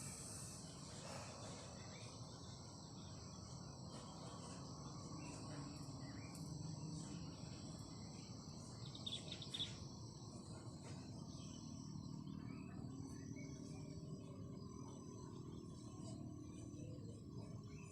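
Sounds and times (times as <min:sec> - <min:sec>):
crickets and insects chirring: 0:00.0 - 0:17.9.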